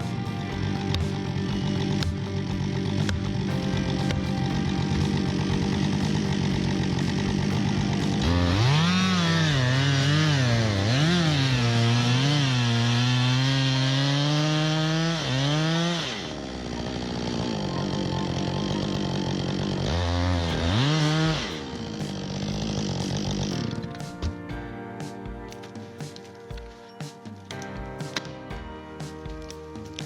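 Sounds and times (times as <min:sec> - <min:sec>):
chainsaw cutting wood: 0:00.1 - 0:24.4.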